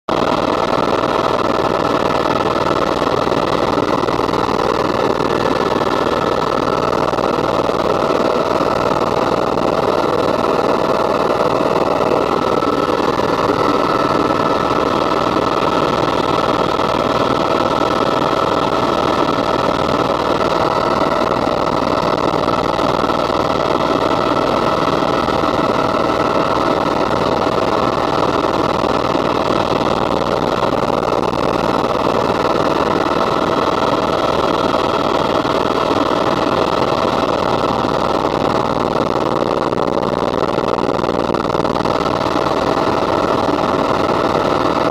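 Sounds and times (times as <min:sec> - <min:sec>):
helicopter rotor and engine noise: 0:00.1 - 0:44.9
steady whining tones: 0:00.1 - 0:44.9.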